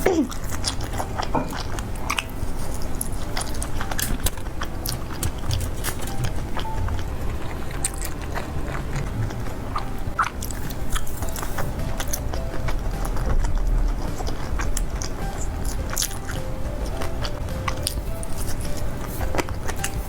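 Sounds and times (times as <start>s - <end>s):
person biting and chewing food: 0.0s - 20.0s
soft background music: 0.0s - 20.0s.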